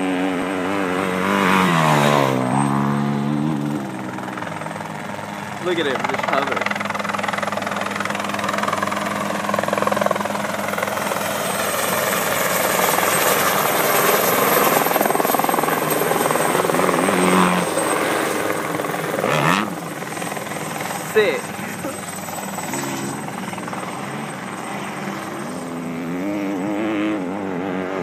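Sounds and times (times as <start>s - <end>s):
high turbine whine: 0.0s - 27.3s
helicopter rotor chop: 0.0s - 27.4s.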